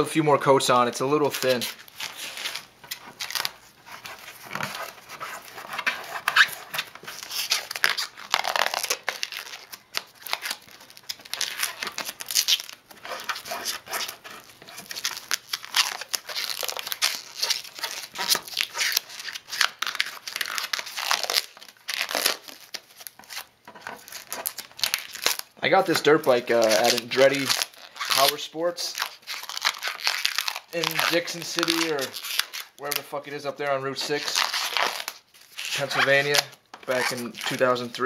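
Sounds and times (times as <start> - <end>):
rubber coating peeled and torn: 1.2 - 38.0.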